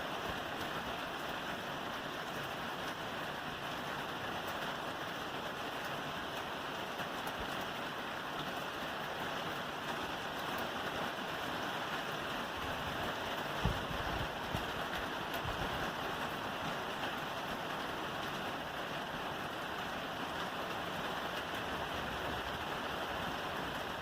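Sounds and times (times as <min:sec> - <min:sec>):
rain on a roof: 0:00.0 - 0:24.0.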